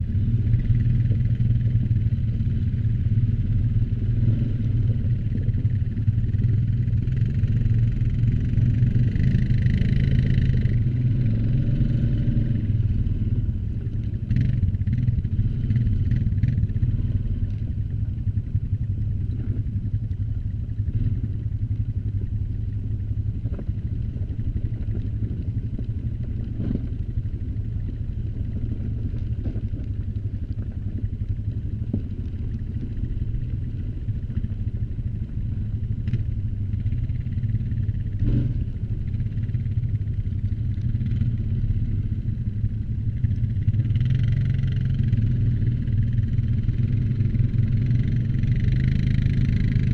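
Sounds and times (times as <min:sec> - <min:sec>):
atv engine droning: 0:00.0 - 0:49.9.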